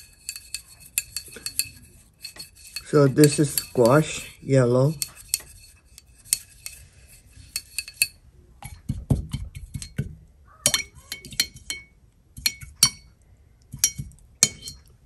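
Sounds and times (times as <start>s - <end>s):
tool clinking on paint dishes: 0.0s - 6.8s, 7.4s - 10.1s, 10.7s - 14.9s.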